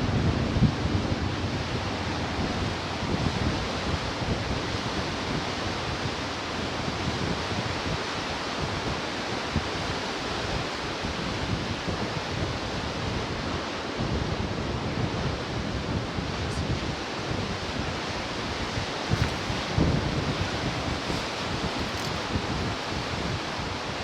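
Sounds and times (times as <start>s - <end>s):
surf washing on shore: 0.0s - 14.0s, 15.8s - 24.0s
wind buffeting microphone: 0.0s - 24.0s.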